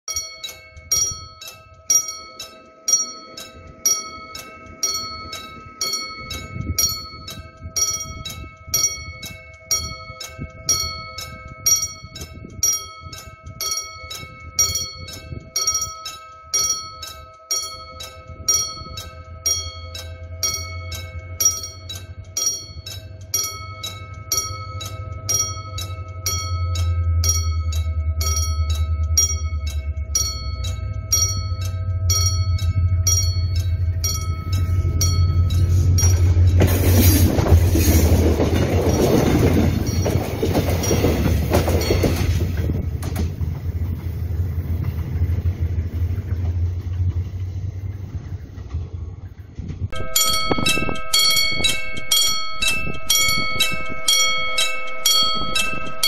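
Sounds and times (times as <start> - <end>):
diesel train rumble: 0.1 - 56.0
level crossing warning bell: 0.1 - 56.0.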